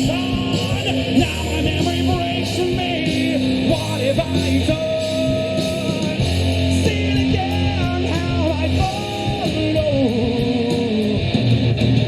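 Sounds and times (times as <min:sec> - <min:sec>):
drums: 0:00.0 - 0:12.0.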